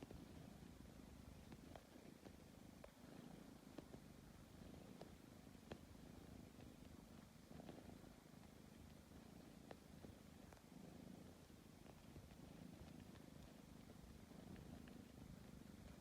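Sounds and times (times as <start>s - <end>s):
cat purring: 0.0s - 16.0s
faint light ticks: 0.0s - 16.0s.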